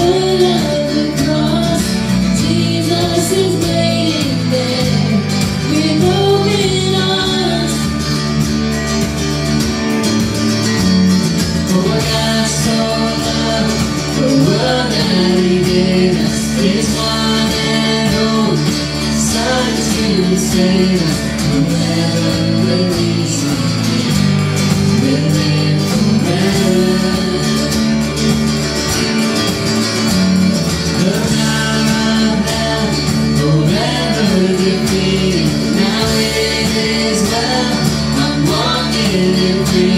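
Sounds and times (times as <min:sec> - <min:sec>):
country worship song with guitar: 0:00.0 - 0:39.9.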